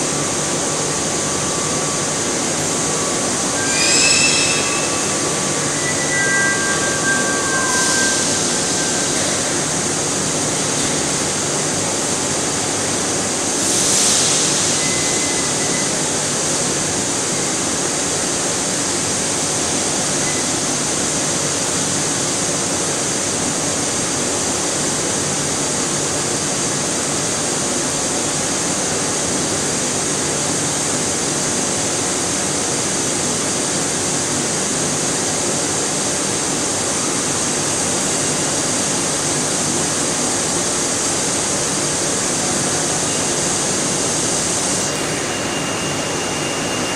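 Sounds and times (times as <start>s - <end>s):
pipe extrusion machinery hiss: 0.0s - 46.9s.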